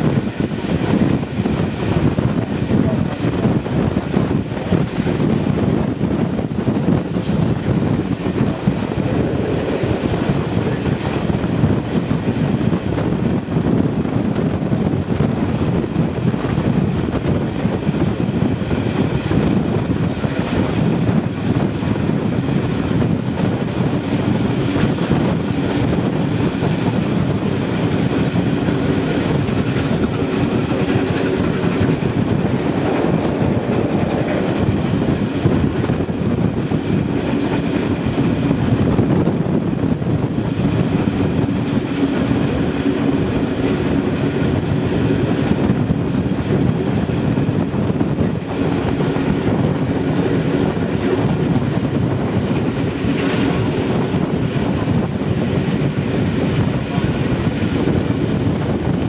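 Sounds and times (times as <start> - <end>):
train wheels clickety-clack: 0.0 - 59.0.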